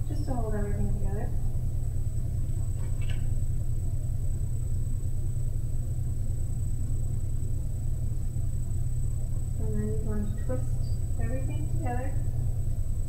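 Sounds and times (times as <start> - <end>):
faint high-pitched whine: 0.0 - 13.0
low room noise rumble: 0.0 - 13.0.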